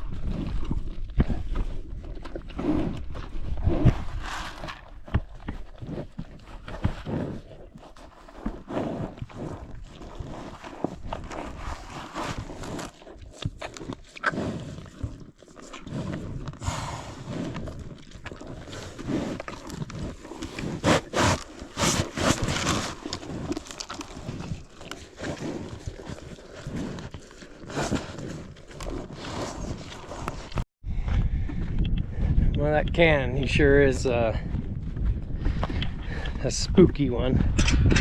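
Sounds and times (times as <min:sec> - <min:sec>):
cattle knocking and shuffling: 0:00.0 - 0:30.6.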